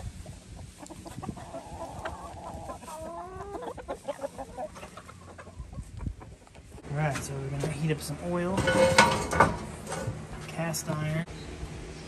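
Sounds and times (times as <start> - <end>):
hens clucking: 0.0 - 10.3.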